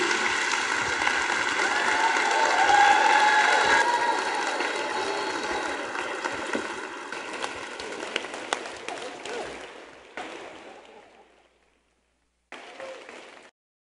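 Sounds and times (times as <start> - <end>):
audience applause: 0.0 - 11.2, 12.5 - 13.5.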